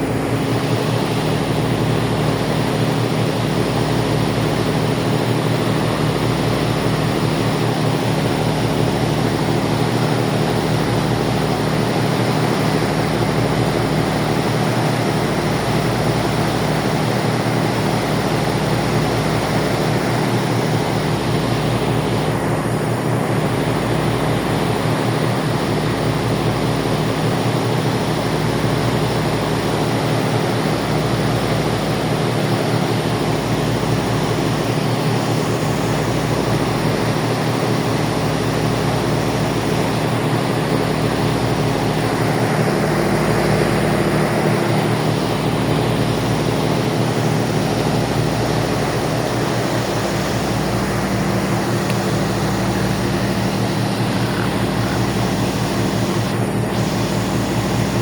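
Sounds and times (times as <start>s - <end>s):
constant rushing noise: 0.0s - 58.0s
ferry engines droning: 0.0s - 58.0s.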